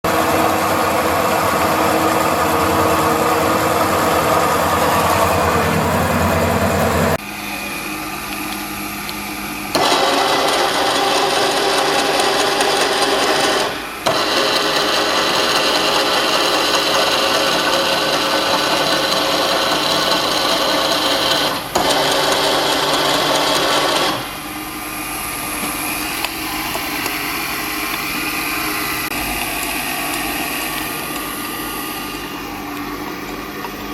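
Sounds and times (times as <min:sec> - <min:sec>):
milling machine hum and whir: 0:00.1 - 0:33.9.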